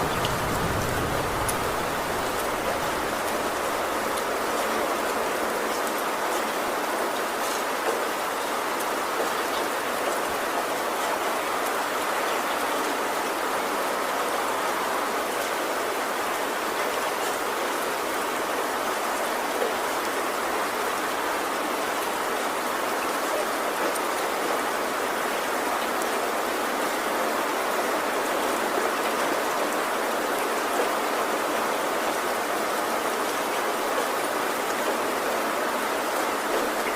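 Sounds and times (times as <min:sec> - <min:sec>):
heavy rain on a tin roof: 0:00.0 - 0:36.9.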